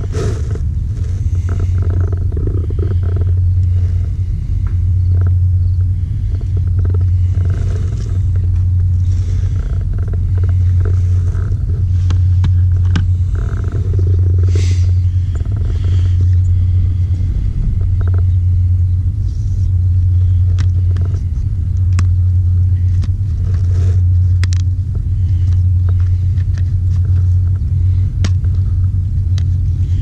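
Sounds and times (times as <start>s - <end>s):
car cabin road rumble: 0.0s - 30.0s.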